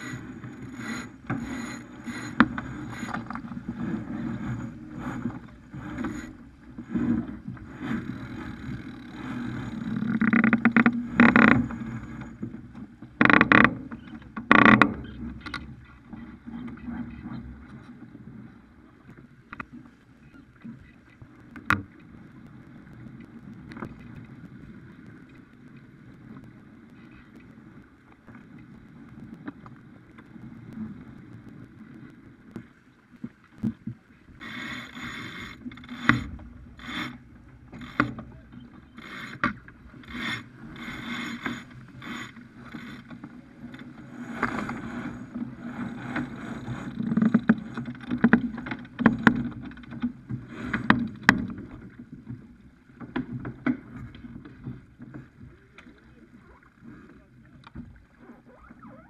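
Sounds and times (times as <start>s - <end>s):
water rushing along boat hull: 0.0s - 59.0s.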